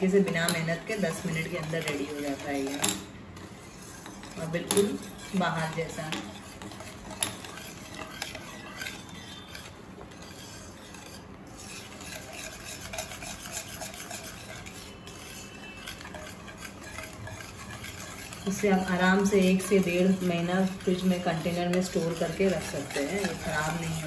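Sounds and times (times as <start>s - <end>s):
whisk scraping a pan: 0.0s - 24.0s.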